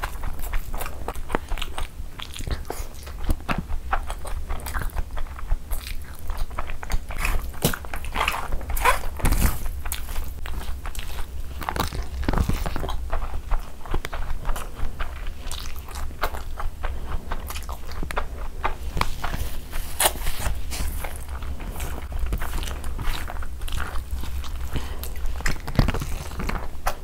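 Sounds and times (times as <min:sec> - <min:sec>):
close chewing: 0:00.0 - 0:27.0.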